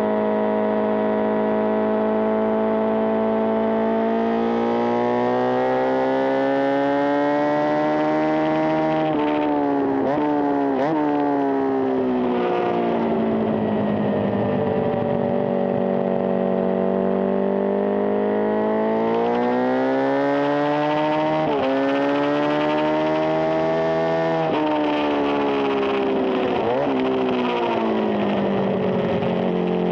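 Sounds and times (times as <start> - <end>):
motorcycle engine under load: 5.2 - 29.9.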